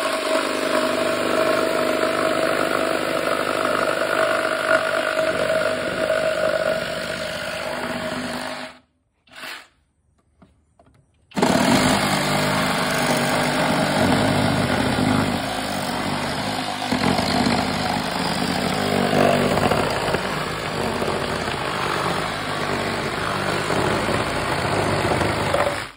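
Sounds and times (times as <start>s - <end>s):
reciprocating saw cutting wood: 0.0s - 9.8s, 11.3s - 25.9s.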